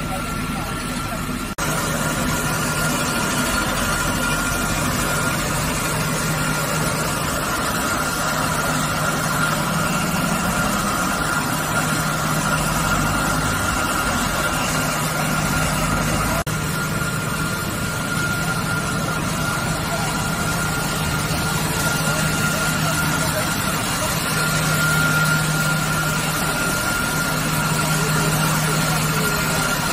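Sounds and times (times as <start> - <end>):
high steady whine: 0.0 - 29.9.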